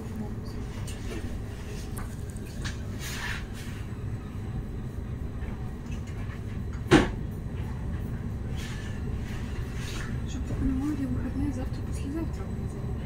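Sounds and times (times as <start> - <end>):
tram rumble: 0.0 - 13.0.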